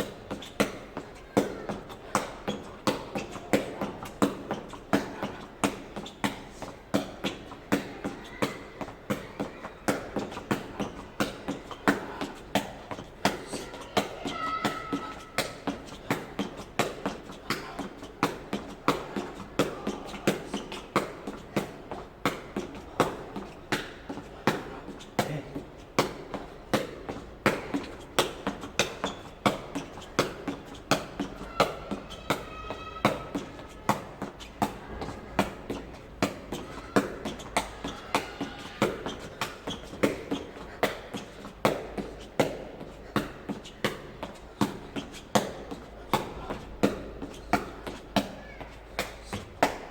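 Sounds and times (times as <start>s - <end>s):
shuttlecock kicked with light taps: 0.0s - 32.0s, 33.1s - 49.9s.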